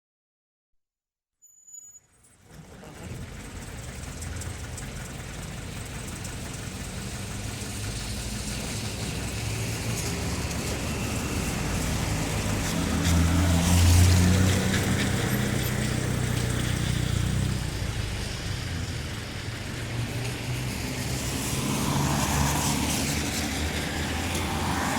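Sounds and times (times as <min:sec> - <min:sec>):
vehicle engines: 0:02.1 - 0:24.9
tyres hissing on wet road: 0:02.5 - 0:24.9.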